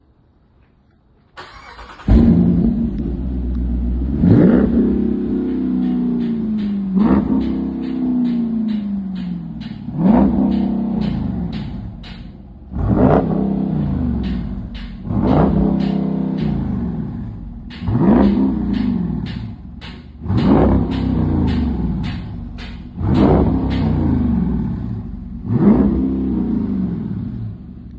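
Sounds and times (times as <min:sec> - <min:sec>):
car engine revving: 0:01.4 - 0:27.9.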